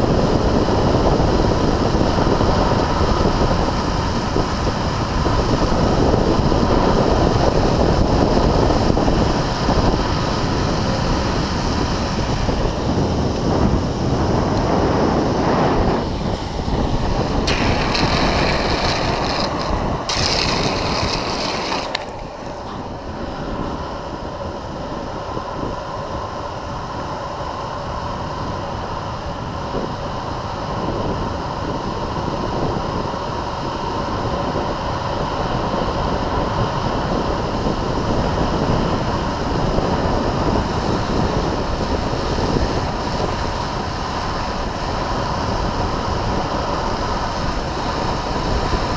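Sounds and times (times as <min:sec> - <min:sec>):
longboard wheels rolling on asphalt: 0:00.0 - 0:28.2, 0:30.7 - 0:48.9
wind rushing over microphone: 0:00.0 - 0:48.9.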